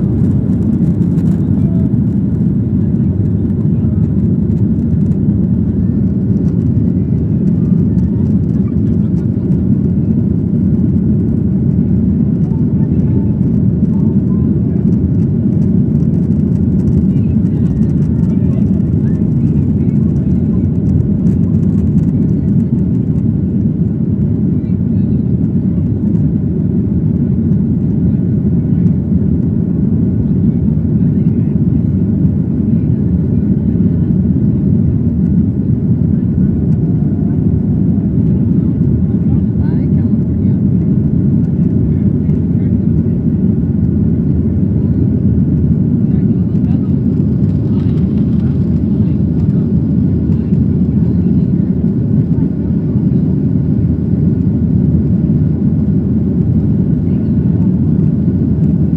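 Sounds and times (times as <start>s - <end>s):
jet engine cabin rumble: 0.0s - 58.9s.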